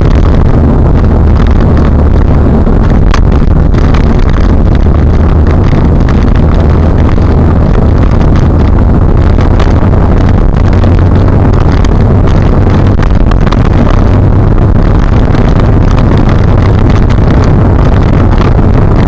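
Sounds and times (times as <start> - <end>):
car interior driving rumble: 0.0 - 19.0.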